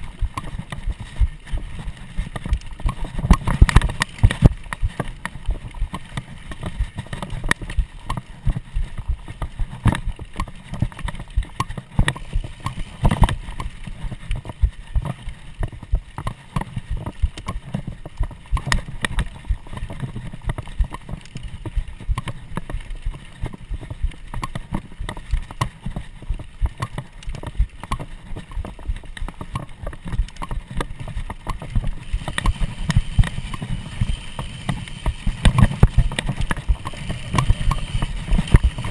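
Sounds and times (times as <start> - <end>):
bike rattling and knocking: 0.0 - 38.9.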